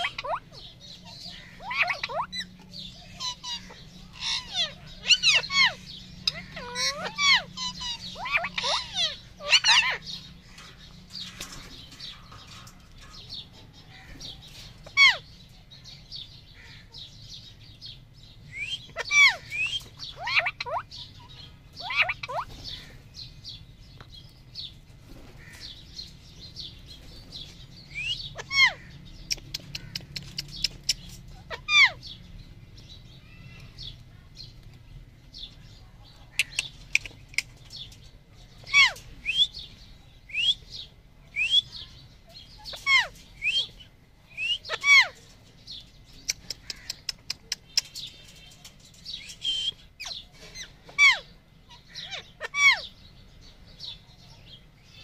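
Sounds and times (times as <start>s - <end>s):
parakeets screeching: 0.0s - 34.0s, 35.6s - 53.2s
parakeets chattering: 0.0s - 55.0s.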